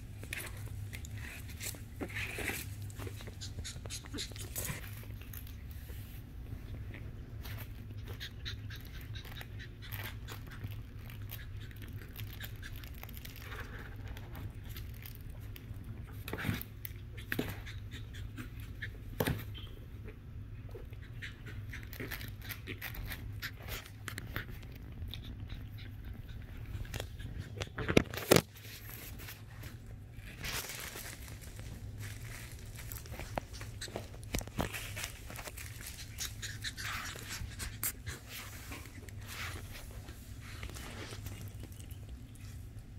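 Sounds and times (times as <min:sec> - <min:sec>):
puppies scuffling and pawing: 0:00.0 - 0:42.9.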